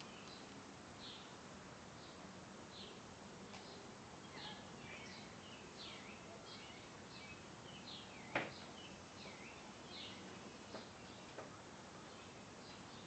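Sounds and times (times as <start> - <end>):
faint background hiss: 0.0 - 13.0
small birds chirping: 0.0 - 13.0.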